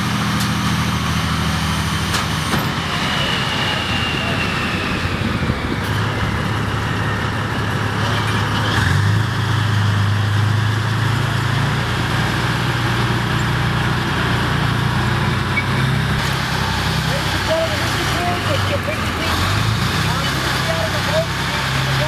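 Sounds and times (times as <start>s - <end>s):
heavy vehicle engine running: 0.0s - 22.0s.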